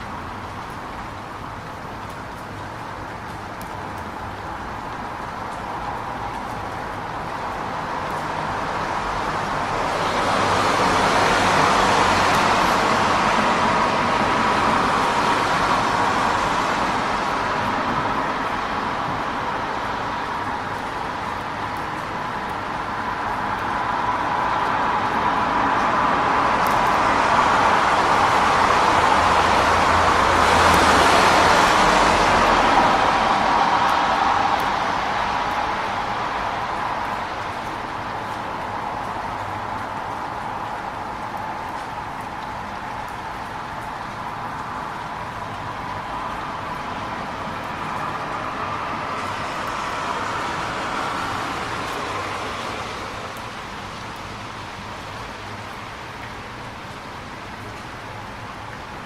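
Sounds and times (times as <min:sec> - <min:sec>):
rain hissing: 0:00.0 - 0:59.0
vehicles passing on wet road: 0:00.0 - 0:59.0.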